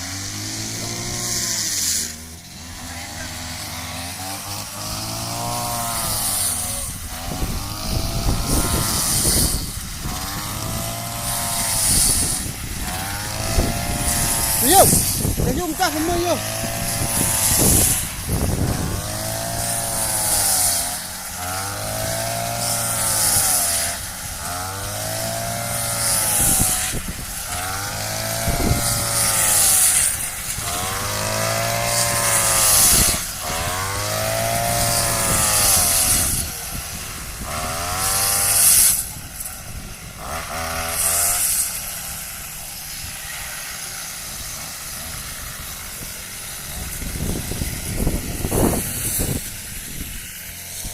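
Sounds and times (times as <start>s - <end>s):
small engine revving: 0.0s - 50.9s
rushing hiss: 4.2s - 50.9s.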